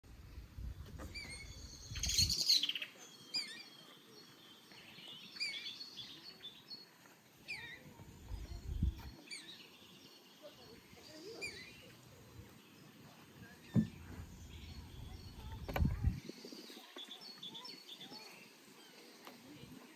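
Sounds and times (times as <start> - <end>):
birds chirping: 0.2 - 19.9.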